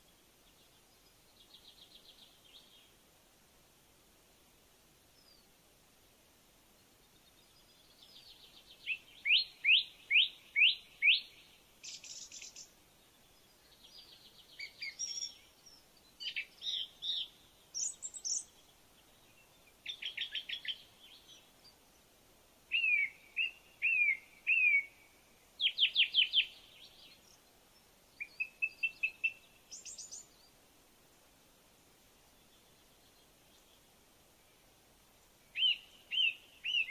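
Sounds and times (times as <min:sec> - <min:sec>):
songbird singing: 0:00.0 - 0:03.2, 0:05.1 - 0:36.9.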